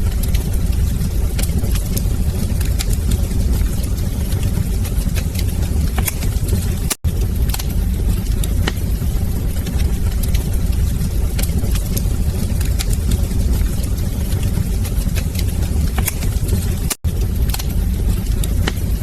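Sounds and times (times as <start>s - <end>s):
fire roaring: 0.0s - 19.0s
wood fire crackling and popping: 0.0s - 19.0s.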